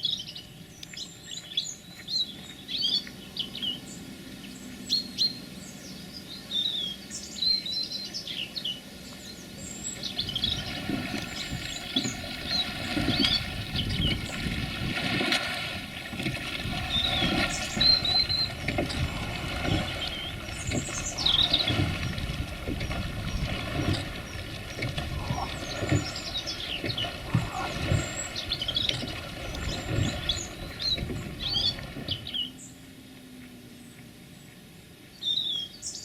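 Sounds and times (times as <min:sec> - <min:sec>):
birds chirping and singing: 0:00.0 - 0:14.5, 0:16.6 - 0:32.8.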